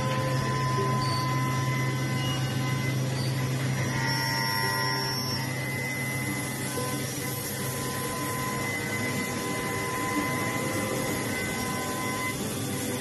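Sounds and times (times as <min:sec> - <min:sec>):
faint whining tones: 0:00.0 - 0:13.0
woodworking machine humming: 0:00.0 - 0:13.0.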